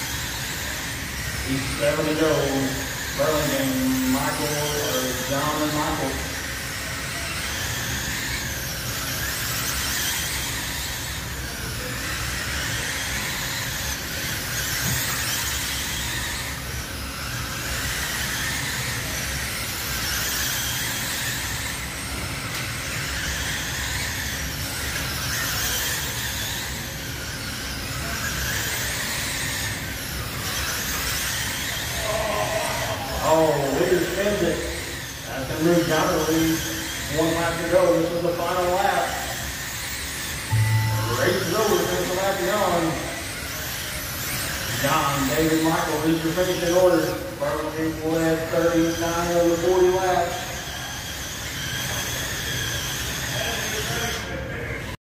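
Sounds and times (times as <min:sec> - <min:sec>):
rc car motors whining: 0:00.0 - 0:55.0.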